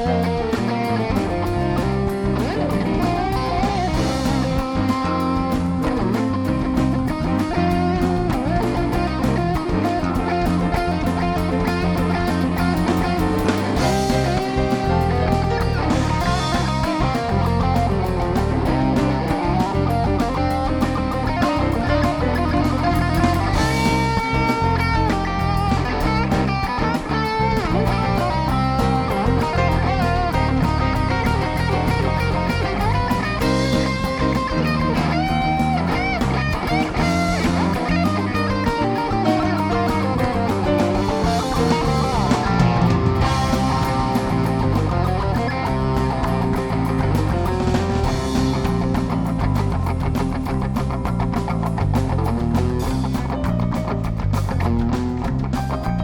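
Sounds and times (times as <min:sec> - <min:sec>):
bass guitar: 0:00.0 - 0:56.0
drums: 0:00.0 - 0:56.0
electric guitar: 0:00.0 - 0:56.0.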